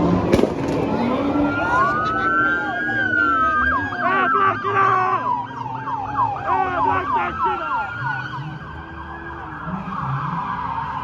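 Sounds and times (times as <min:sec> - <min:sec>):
police siren wailing: 0:00.0 - 0:11.0
police sirens yelping: 0:00.0 - 0:11.0
vehicle engines running: 0:00.0 - 0:11.0.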